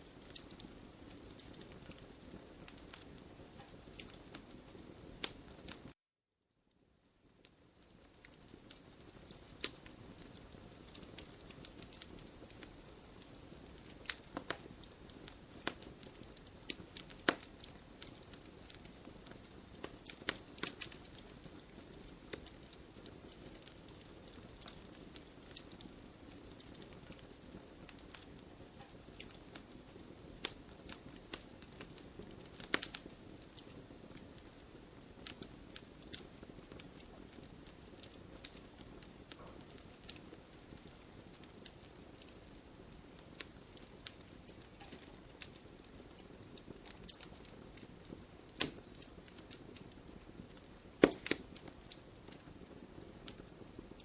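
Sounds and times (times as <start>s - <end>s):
campfire pops and snaps: 0.0s - 5.9s, 7.9s - 42.5s, 43.1s - 54.0s
low hiss of burning: 0.0s - 6.0s, 6.6s - 54.0s.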